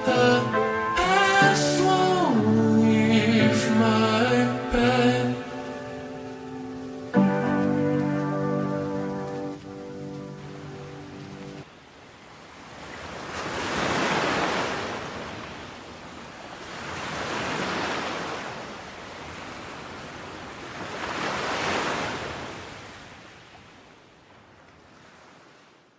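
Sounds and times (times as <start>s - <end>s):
ocean waves washing in: 0.0s - 24.0s.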